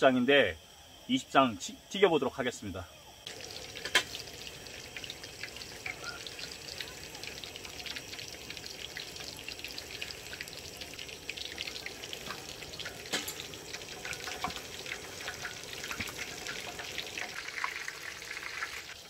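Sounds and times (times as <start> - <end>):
hot oil sizzling and popping: 3.2 - 19.0.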